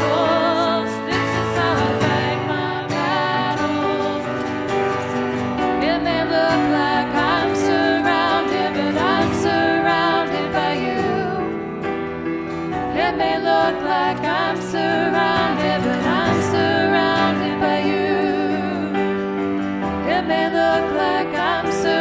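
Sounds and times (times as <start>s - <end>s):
guitar chords: 0.0s - 22.0s.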